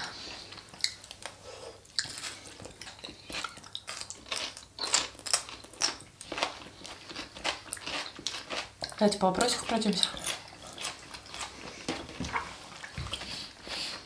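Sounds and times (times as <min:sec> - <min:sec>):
vegetables crunching while chewing: 0:00.2 - 0:12.2.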